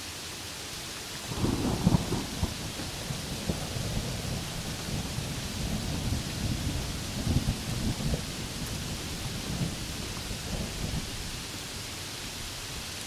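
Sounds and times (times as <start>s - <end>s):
rain hiss: 0.0s - 13.0s
thunder clap and rumble: 1.2s - 12.6s.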